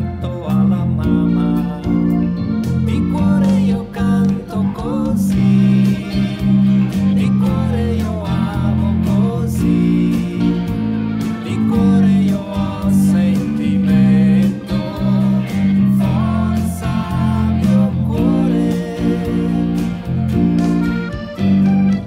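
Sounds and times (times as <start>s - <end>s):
backing song with singing: 0.0s - 20.9s
electric bass playing low notes: 0.0s - 22.0s.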